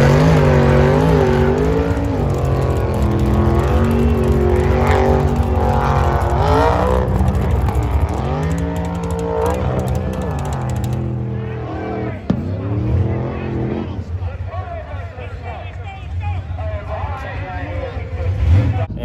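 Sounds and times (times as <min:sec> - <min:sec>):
race car launching: 0:00.0 - 0:18.9
drag racing engines revving: 0:00.0 - 0:19.0.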